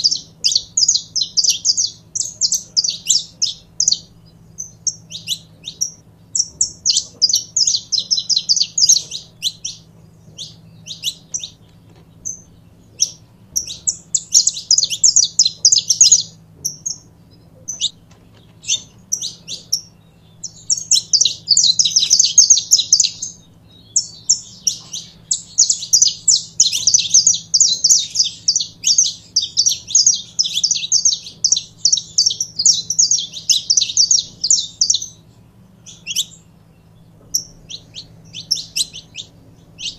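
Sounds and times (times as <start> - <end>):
finch singing: 0.0 - 39.9.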